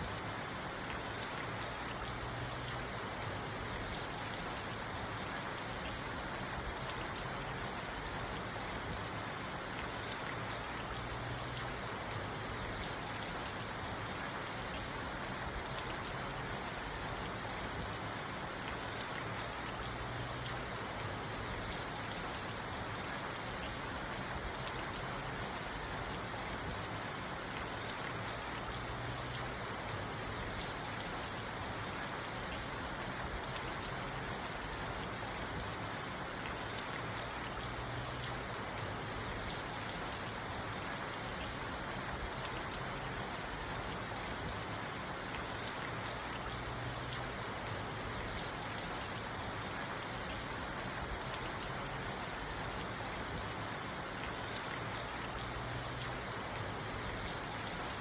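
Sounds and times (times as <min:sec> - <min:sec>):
rain on car roof and glass: 0:00.0 - 0:58.0.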